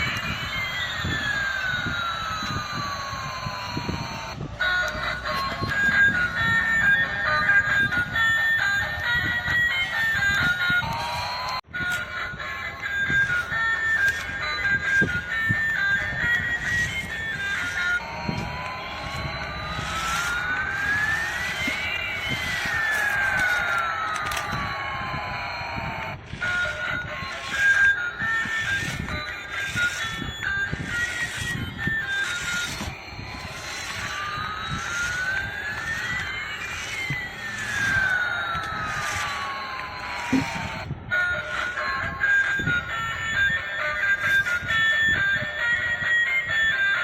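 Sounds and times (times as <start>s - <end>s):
siren-like rising tone: 0.0s - 45.4s
toy beeping melody: 0.0s - 47.0s.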